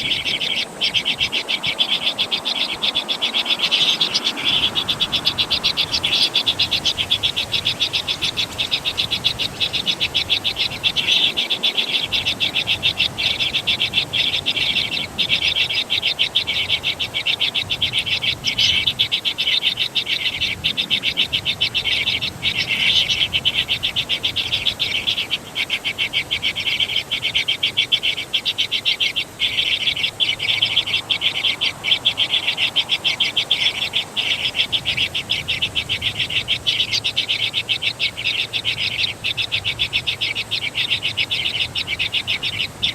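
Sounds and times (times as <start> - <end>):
rapid high chirping chorus: 0.0 - 42.9.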